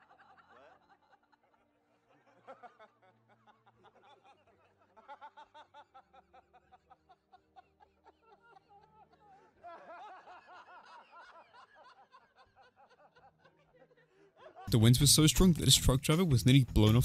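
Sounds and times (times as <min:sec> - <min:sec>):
people laughing: 0:00.0 - 0:17.0.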